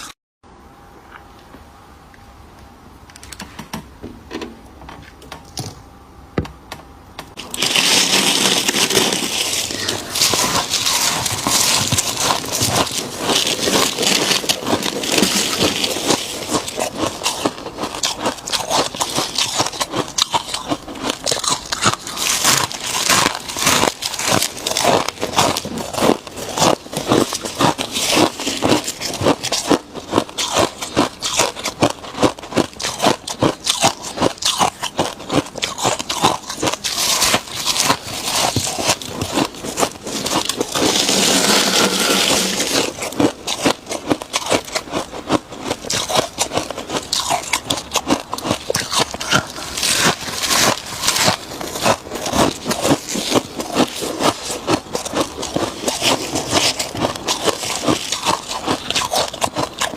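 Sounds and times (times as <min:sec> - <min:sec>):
chewing frost crunches: 0:07.4 - 0:59.9.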